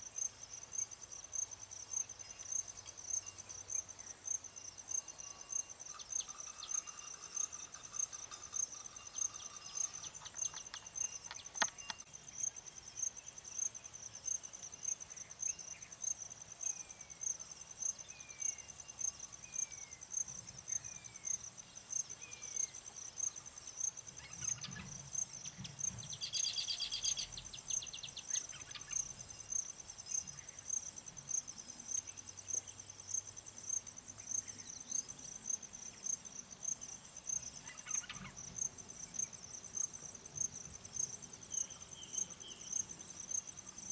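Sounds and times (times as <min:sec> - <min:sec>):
cricket chirping: 0:00.0 - 0:43.9.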